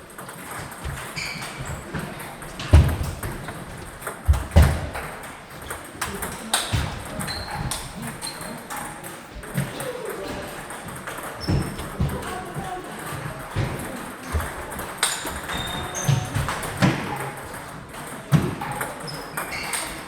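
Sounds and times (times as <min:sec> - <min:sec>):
table tennis balls clicking: 0:00.1 - 0:20.0.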